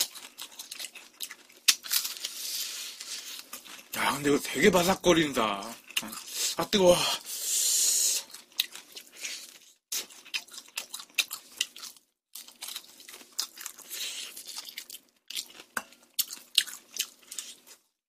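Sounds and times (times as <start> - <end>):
crunchy chewing of fried chicken: 0.0 - 4.3, 7.2 - 18.0.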